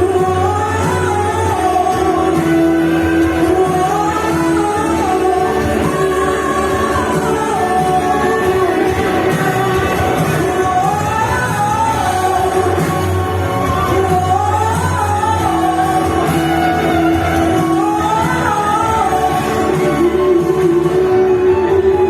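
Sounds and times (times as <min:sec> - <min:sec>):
worship song instrumental: 0:00.0 - 0:22.0.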